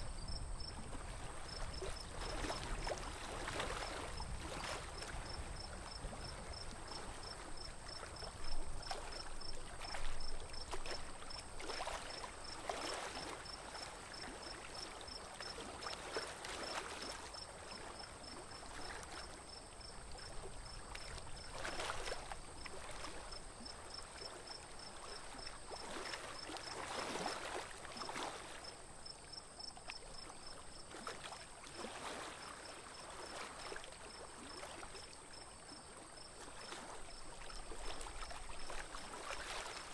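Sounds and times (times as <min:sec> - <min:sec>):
water lapping against wooden boat: 0:00.0 - 0:39.9
water splashes: 0:00.6 - 0:28.7, 0:29.3 - 0:39.9.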